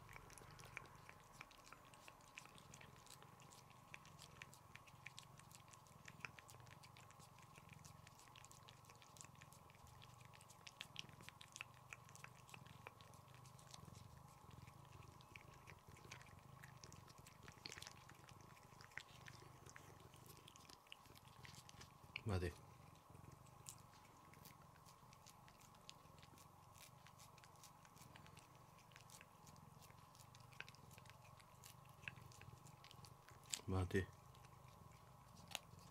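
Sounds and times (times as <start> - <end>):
cats licking wet food: 0.0 - 35.9
steady low hum: 0.0 - 35.9.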